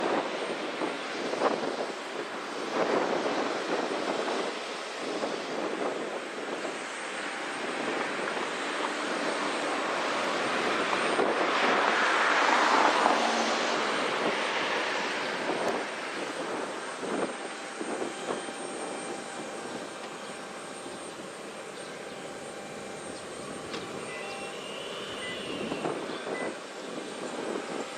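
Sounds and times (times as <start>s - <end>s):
airliner engines passing: 0.0s - 27.9s.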